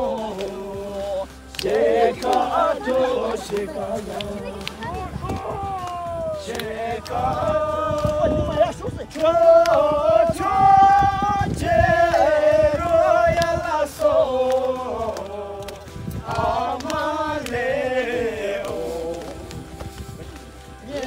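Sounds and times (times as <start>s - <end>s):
group of people singing: 0.0s - 5.3s, 6.0s - 20.2s, 20.8s - 21.0s
hands clapping: 0.0s - 21.0s
man's voice leading song: 0.0s - 21.0s.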